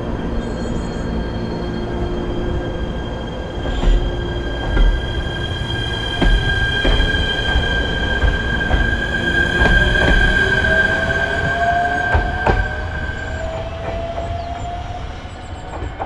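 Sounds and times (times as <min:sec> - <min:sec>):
train rumbling on rails: 0:00.0 - 0:16.0
high-pitched wheel squeal: 0:00.3 - 0:15.6.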